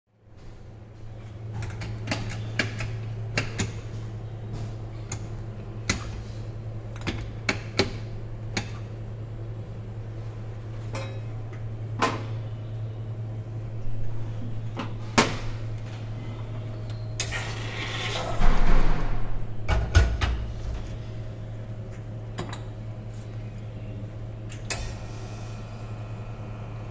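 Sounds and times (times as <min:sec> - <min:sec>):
steady low hum: 0:00.1 - 0:26.9.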